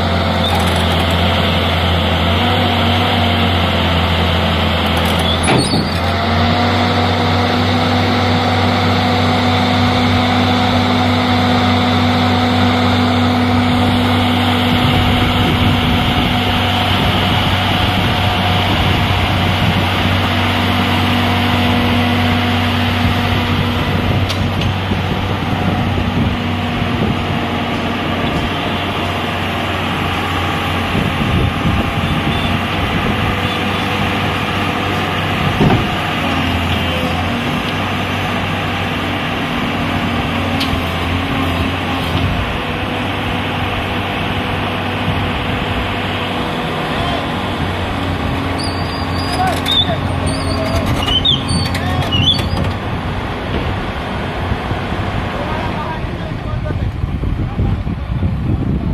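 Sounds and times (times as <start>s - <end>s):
engine whine: 0.0s - 58.9s
excavator diesel engine humming: 0.0s - 58.9s.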